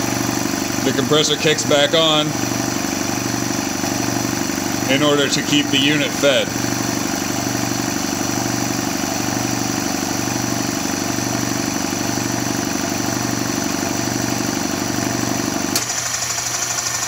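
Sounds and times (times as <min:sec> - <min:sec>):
air compressor pump running: 0:00.0 - 0:17.0.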